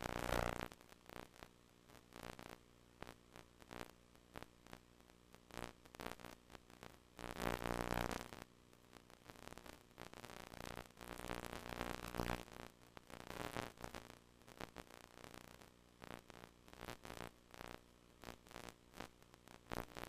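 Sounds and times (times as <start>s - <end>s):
low steady tape buzz: 0.0s - 20.0s
static crackles and hiss: 0.0s - 20.0s.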